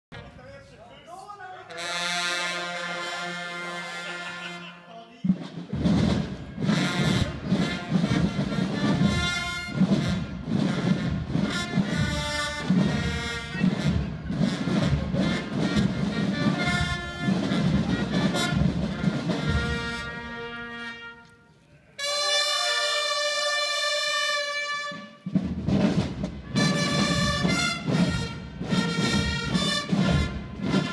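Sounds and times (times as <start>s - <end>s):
brass playing: 1.1s - 30.9s
drums beating: 1.2s - 21.0s, 22.0s - 30.9s.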